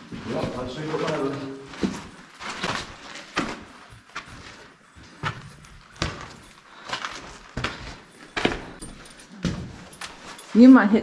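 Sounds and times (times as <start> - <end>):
footsteps on sandy gritty floor: 0.0 - 11.0.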